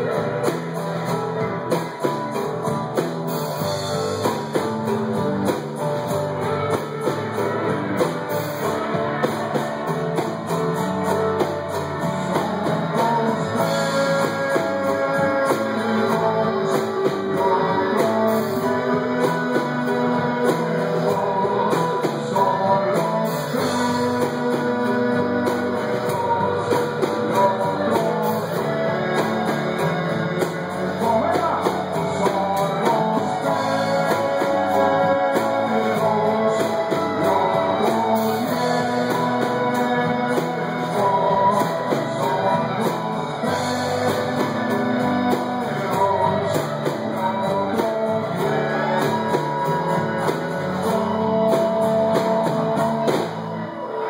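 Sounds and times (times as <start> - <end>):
live rock band playing: 0.0 - 54.0
man singing: 0.0 - 54.0.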